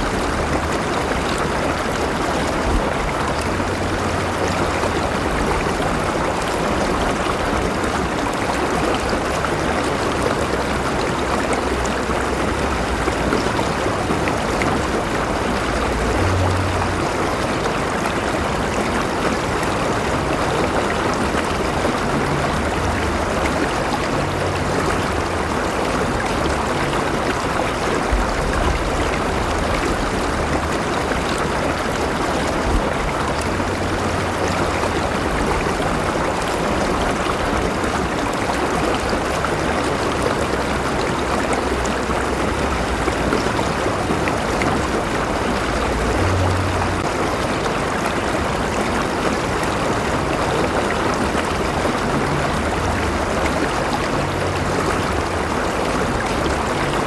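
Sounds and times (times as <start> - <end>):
river water splashing over rocks: 0.0 - 57.0.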